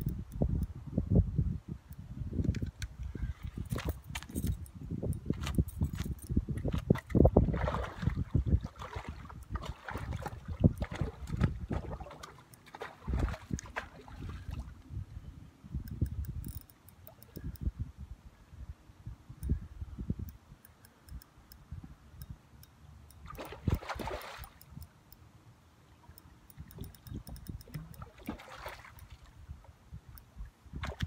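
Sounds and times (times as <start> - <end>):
wind rumbling on microphone: 0.0 - 22.4, 23.2 - 24.9, 26.5 - 31.0.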